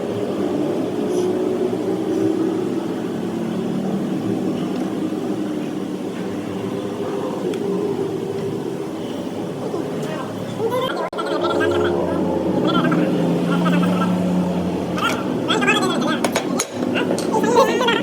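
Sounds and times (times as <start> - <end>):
machinery droning hum: 0.0 - 18.0.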